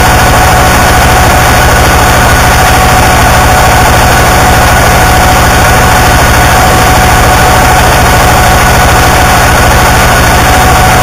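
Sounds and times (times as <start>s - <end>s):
fast throbbing low end: 0.0s - 11.0s
harsh distorted static noise: 0.0s - 11.0s.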